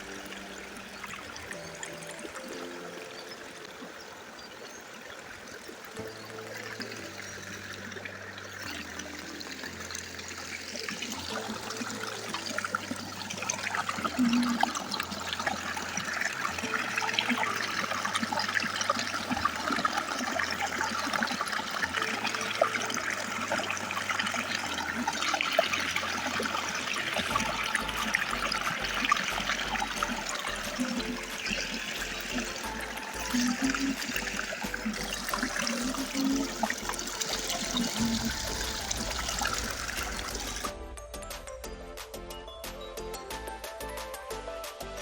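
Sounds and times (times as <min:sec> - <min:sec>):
river water flowing: 0:00.0 - 0:40.8
soft background music: 0:00.0 - 0:45.0.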